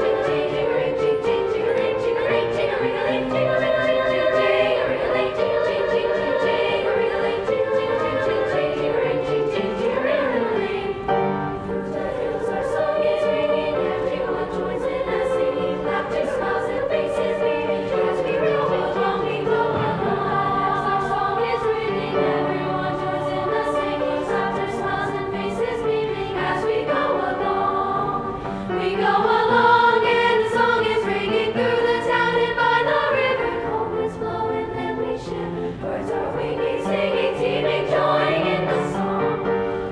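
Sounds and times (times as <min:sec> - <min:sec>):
girls' choir singing: 0:00.0 - 0:39.9
piano accompaniment: 0:00.0 - 0:39.9.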